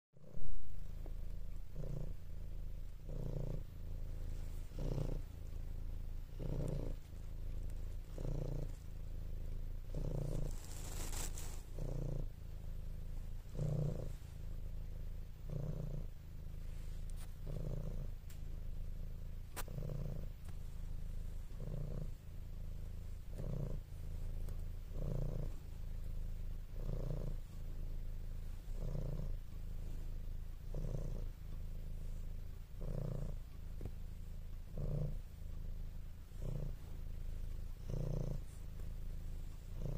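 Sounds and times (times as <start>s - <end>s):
cat purring: 0.2s - 39.9s.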